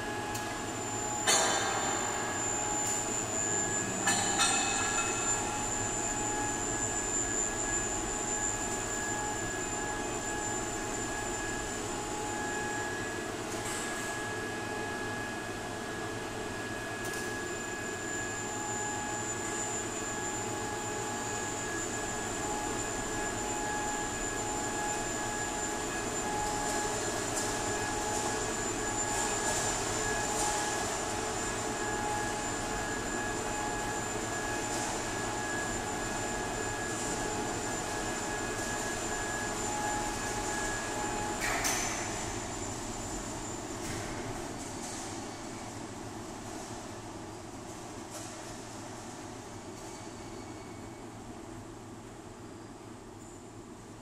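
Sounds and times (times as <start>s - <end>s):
high steady whines: 0.0s - 50.2s
workshop machinery drone: 0.0s - 54.0s.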